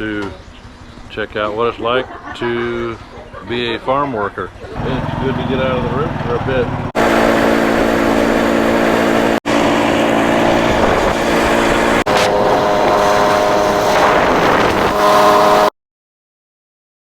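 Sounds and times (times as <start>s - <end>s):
vehicle engine and road noise: 0.0s - 15.7s.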